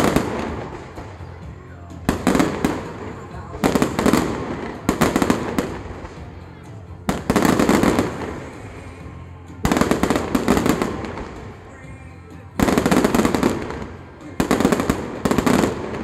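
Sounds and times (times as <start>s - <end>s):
fireworks crackling bursts: 0.0s - 16.0s.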